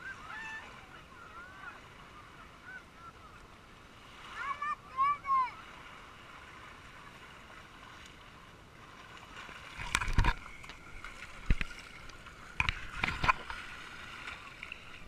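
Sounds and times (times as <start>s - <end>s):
shallow water sloshing: 0.0s - 15.0s.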